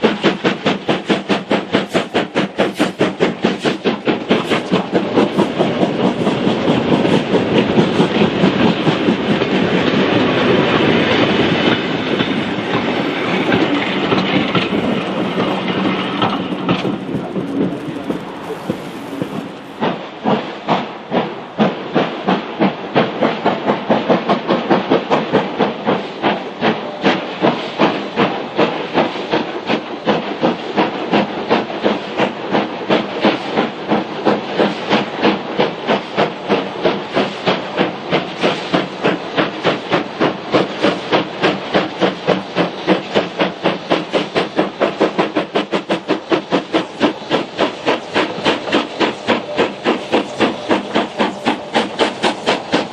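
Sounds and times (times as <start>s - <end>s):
steam locomotive chuffing: 0.0s - 52.9s.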